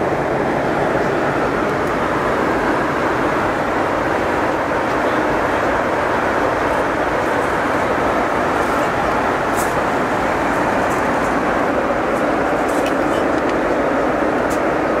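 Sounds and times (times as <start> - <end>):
airplane cabin rushing noise: 0.0 - 15.0.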